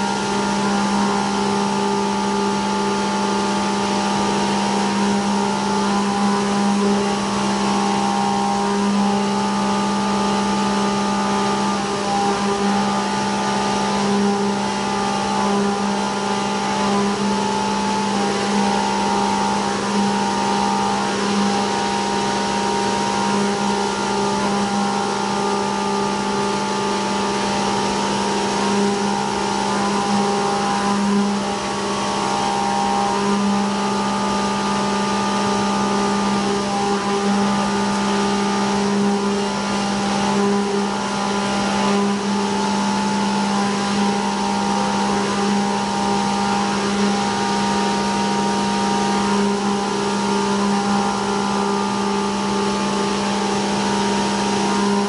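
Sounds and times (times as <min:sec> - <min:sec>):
milling machine cutting hum: 0:00.0 - 0:55.0.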